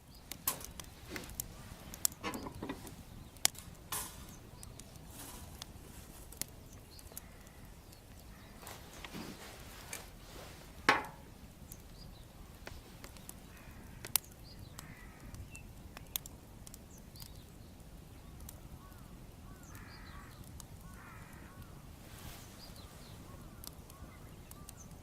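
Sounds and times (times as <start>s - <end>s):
bonfire crackling and popping: 0.0s - 25.0s
birds hoarse calls: 0.1s - 10.2s, 10.8s - 17.4s, 18.1s - 25.0s.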